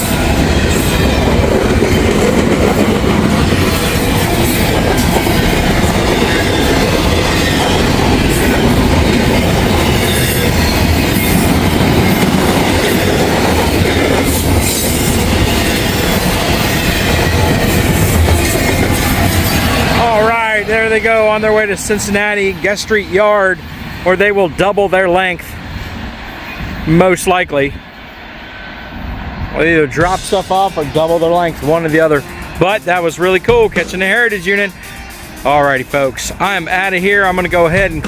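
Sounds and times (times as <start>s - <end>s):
freight train wheels rumbling on rail: 0.0s - 38.0s.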